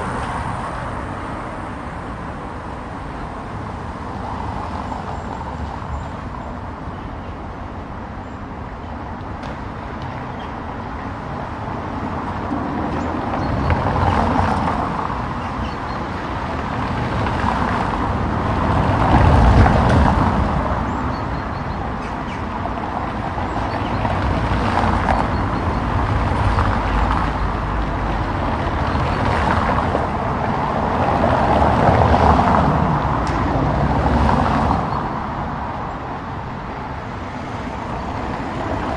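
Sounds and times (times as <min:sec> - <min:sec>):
hum of traffic: 0:00.0 - 0:38.9
vehicles passing close by: 0:00.0 - 0:38.9.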